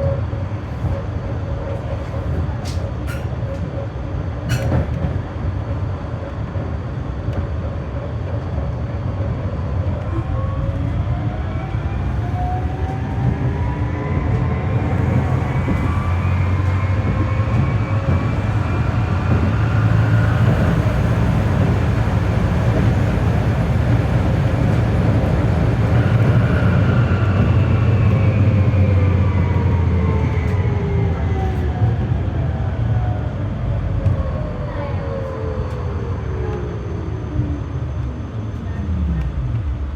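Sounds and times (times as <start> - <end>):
tram motors whining: 0.0 - 39.9
wheels rumbling on rails: 0.0 - 39.9.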